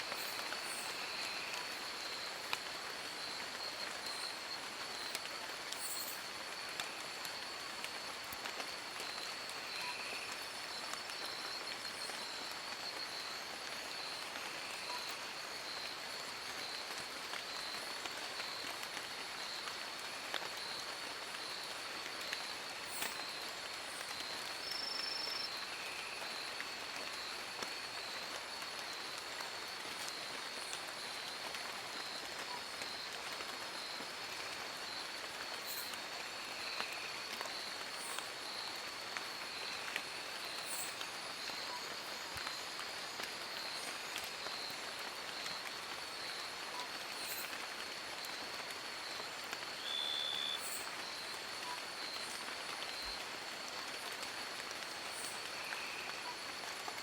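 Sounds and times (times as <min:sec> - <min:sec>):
rain falling in a forest: 0:00.0 - 0:57.0.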